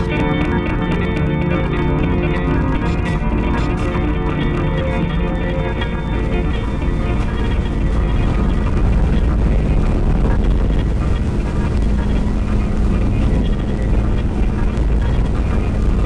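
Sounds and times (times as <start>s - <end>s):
faint hum: 0.0s - 16.0s
loud low rumble: 0.0s - 16.0s.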